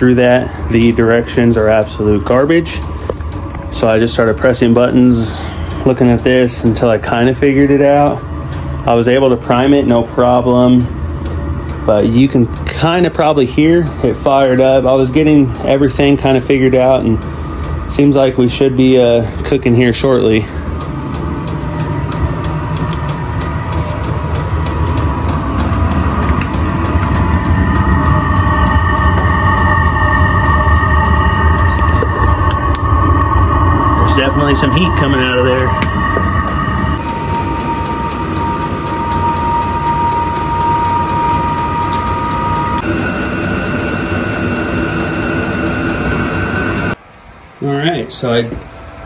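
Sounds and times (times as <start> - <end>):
fan whine: 0.0 - 49.0
heater low rumble: 0.0 - 49.0.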